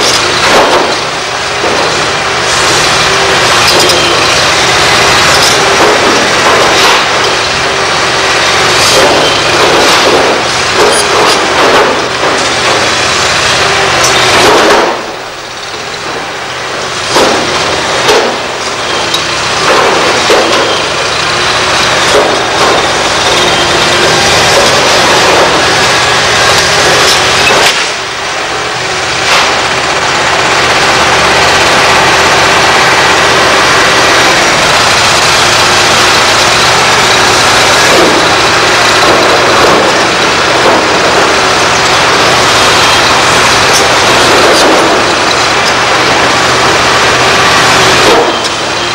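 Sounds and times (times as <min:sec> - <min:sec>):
brick and rubble crashing: 0:00.0 - 0:48.9
excavator engine and hydraulics: 0:00.0 - 0:48.9.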